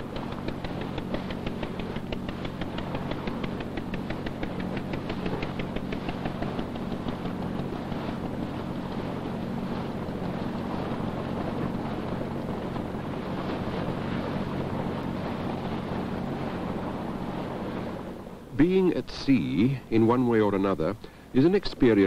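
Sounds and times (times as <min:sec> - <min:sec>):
boat engine humming: 0:00.0 - 0:22.0
water noise: 0:00.0 - 0:22.0
wind: 0:00.0 - 0:22.0.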